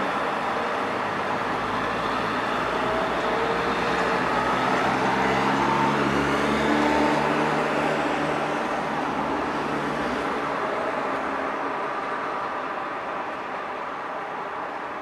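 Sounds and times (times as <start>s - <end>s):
passing vehicles rushing: 0.0s - 15.0s.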